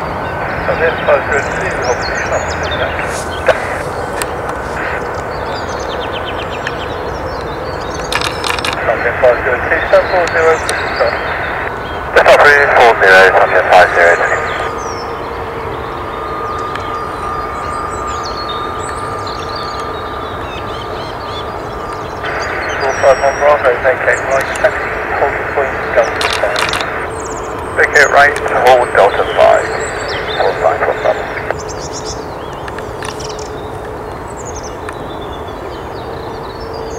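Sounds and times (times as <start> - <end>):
thin even whine: 0.0 - 34.3
distant jet engines rumbling: 0.0 - 36.9
low steady hum: 0.0 - 36.9
steady rushing background: 0.0 - 36.9
small birds chirping: 0.1 - 36.9.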